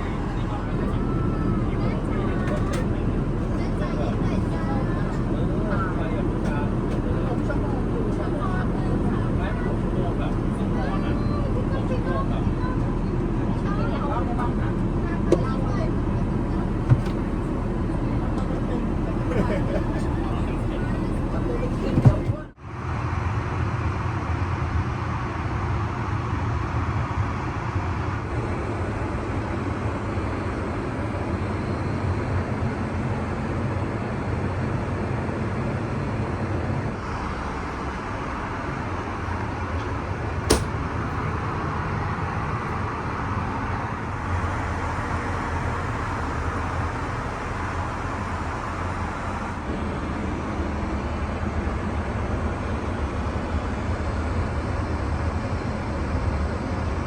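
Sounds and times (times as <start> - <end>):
airliner cabin rumble and air: 0.0 - 57.0.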